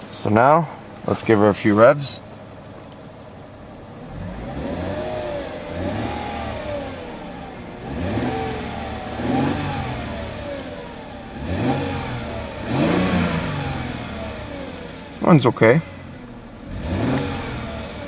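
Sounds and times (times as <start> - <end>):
car engine revving: 2.2 - 18.0.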